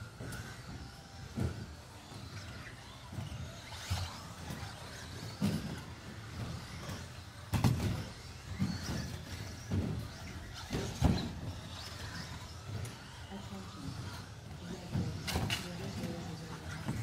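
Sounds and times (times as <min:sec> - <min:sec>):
toy car motors and tyres: 0:00.0 - 0:17.0
toy cars thudding on track: 0:00.0 - 0:17.0.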